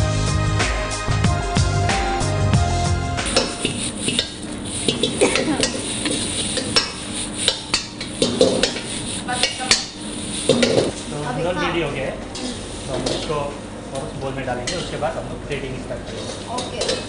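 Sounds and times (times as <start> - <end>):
food sizzling: 1.8 - 17.0.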